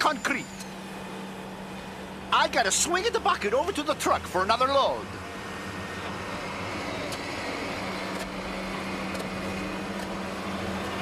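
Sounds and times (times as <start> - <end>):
heavy machinery engine hum: 0.0 - 11.0.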